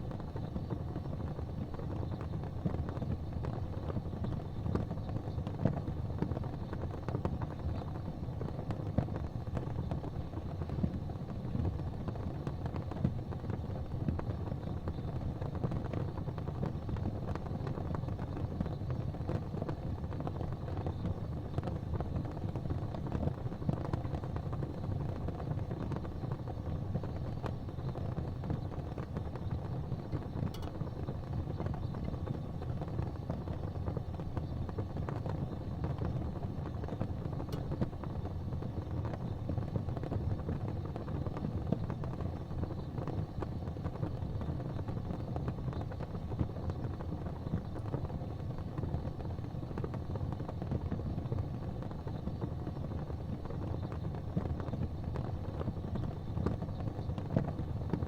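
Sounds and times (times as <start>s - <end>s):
faint small crackles: 0.0s - 58.0s.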